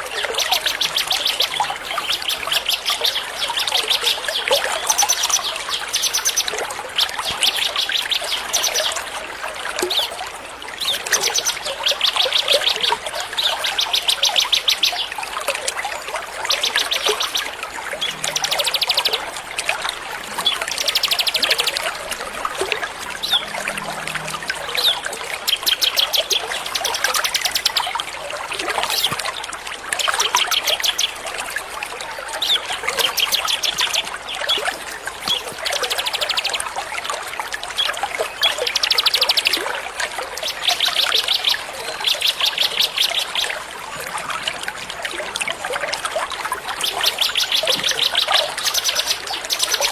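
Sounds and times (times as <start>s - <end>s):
water trickling: 0.0s - 49.9s.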